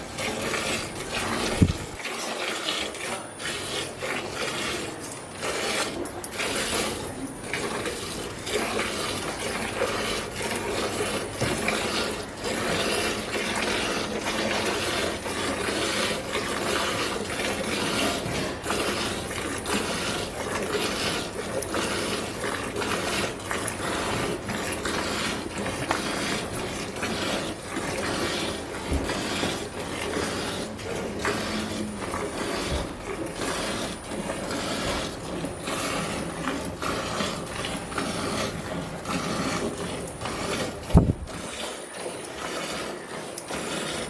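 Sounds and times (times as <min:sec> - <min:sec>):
milk squirting into a pail: 0:00.0 - 0:44.0.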